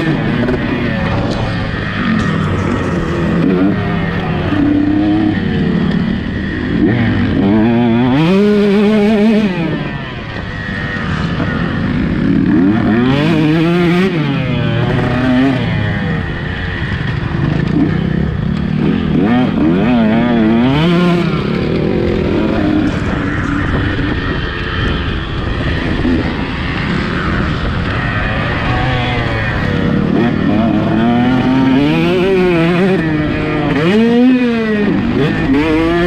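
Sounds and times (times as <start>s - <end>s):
motocross bike engine revving: 0.0s - 36.0s.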